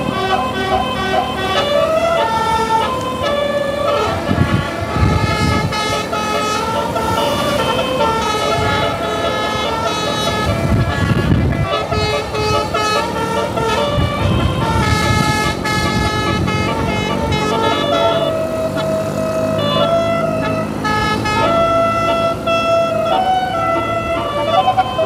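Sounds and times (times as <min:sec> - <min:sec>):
bus air horn playing a melody: 0:00.0 - 0:25.0.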